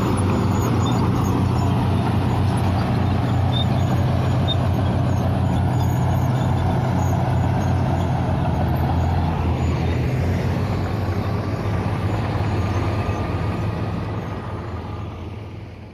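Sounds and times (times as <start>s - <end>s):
heavy diesel engine running: 0.0s - 15.9s.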